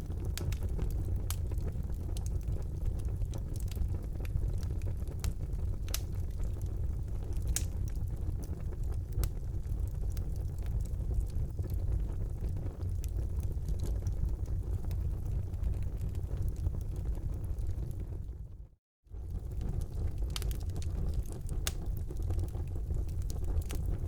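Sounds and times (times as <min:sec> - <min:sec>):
fire crackling and popping: 0:00.0 - 0:18.5, 0:19.1 - 0:24.0
fire flames rumbling: 0:00.0 - 0:24.0.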